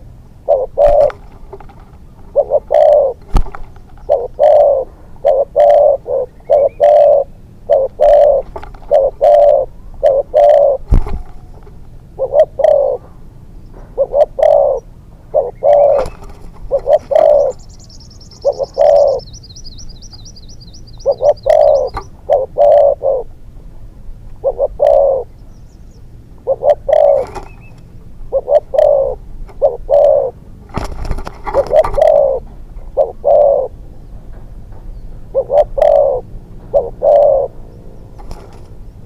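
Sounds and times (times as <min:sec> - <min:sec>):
dove cooing: 0:00.0 - 0:23.4, 0:24.4 - 0:25.4, 0:26.4 - 0:33.8, 0:35.2 - 0:39.0.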